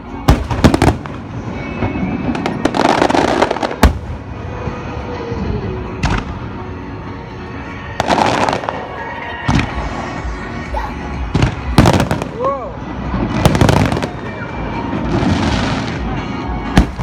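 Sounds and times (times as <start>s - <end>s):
firework crackling: 0.3s - 6.6s, 8.0s - 17.0s.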